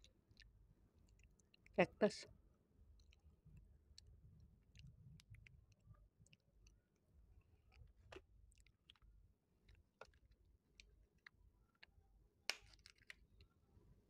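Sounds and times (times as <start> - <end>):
faint chewing with mouth clicks: 0.0 - 13.6.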